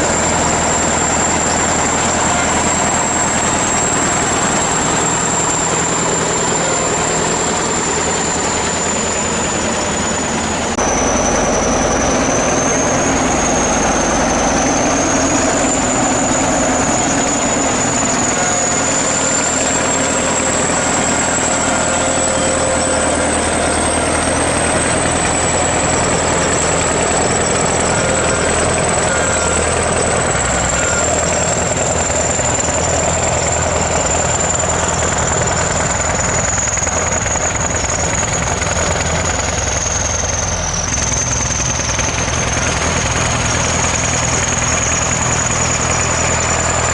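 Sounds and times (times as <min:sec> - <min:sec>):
bulldozer diesel engine running: 0:00.0 - 0:46.9
high whine: 0:00.0 - 0:46.9.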